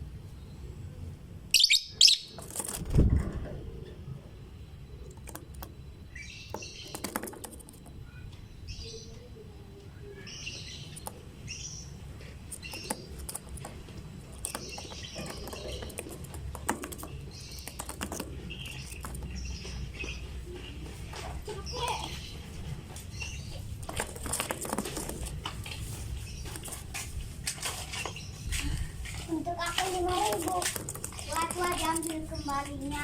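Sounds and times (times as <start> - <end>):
lovebirds chirping: 0.0 - 2.5, 3.8 - 27.1, 27.8 - 33.0.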